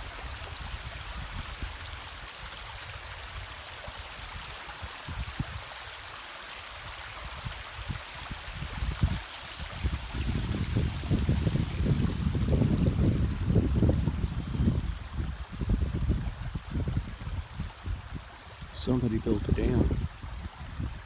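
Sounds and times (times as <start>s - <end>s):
water rushing over gravel: 0.0s - 21.0s.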